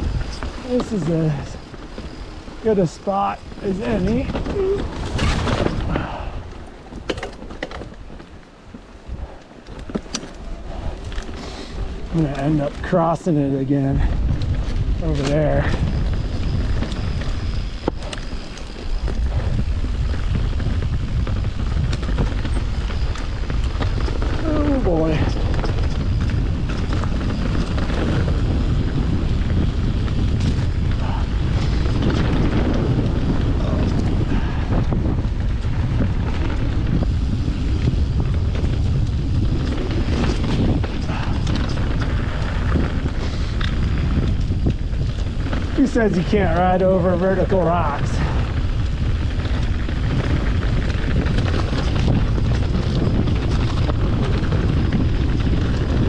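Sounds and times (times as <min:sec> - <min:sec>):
mountain bike rolling on dirt: 0:00.0 - 0:56.0
sharp rattles and clicks: 0:00.0 - 0:56.0
wind buffeting microphone: 0:00.0 - 0:56.0.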